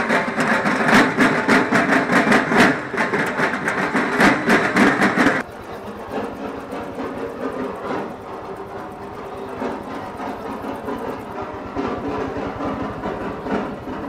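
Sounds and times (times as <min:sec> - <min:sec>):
fast rhythmic percussion: 0:00.0 - 0:14.0.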